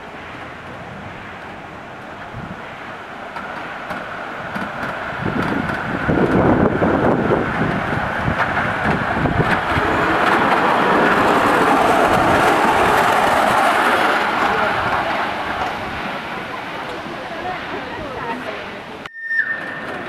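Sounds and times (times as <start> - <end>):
miniature train rolling past: 0.0 - 20.0.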